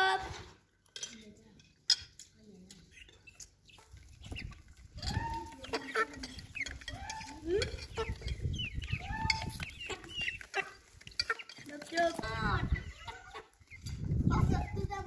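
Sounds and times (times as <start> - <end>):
chickens clucking: 2.6 - 15.0
drawn-out chicken calls: 2.8 - 15.0.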